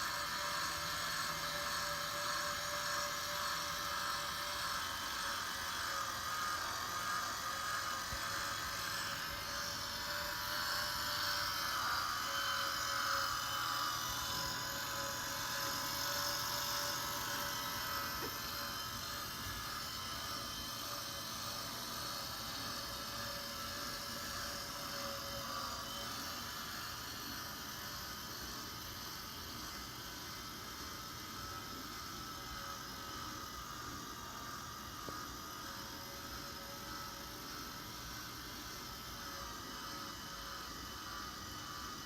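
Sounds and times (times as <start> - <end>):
small electric motor whirring: 0.0 - 42.0.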